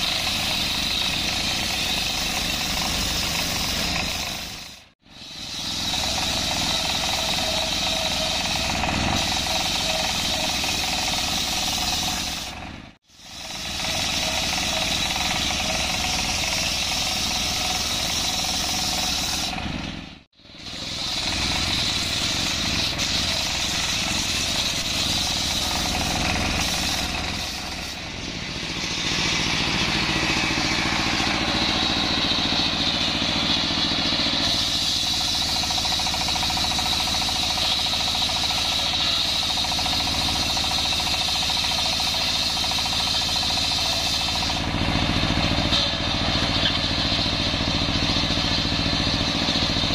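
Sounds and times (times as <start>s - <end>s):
circular saw blade cutting wood: 0.0s - 49.9s
diesel engine running: 0.0s - 49.9s.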